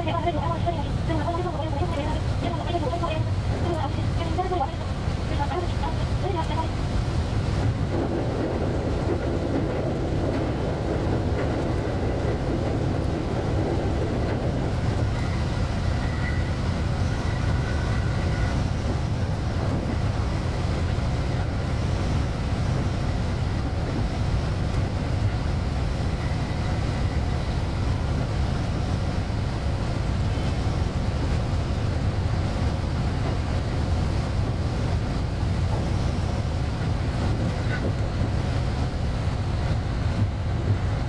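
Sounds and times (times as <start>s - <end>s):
faint train whine: 0.0s - 41.0s
train wheels rumbling on rail: 0.0s - 41.0s.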